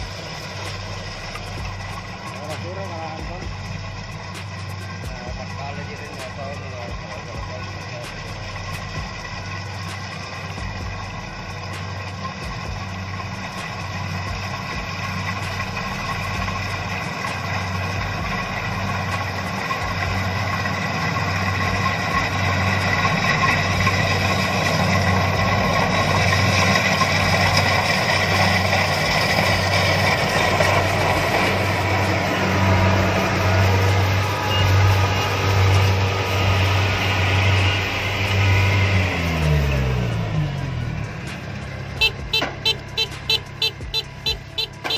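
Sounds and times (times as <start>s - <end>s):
diesel engine hum: 0.0s - 44.9s
higher steady machine tones: 0.0s - 44.9s.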